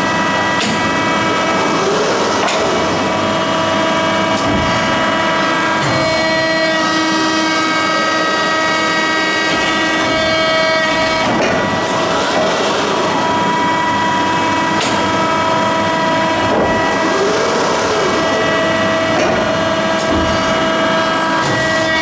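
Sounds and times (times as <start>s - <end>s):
machine whine: 0.0s - 22.0s.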